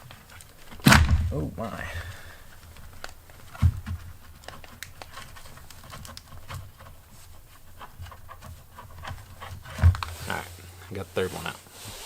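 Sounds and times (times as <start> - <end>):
hands working rubber grommet: 0.0 - 12.0.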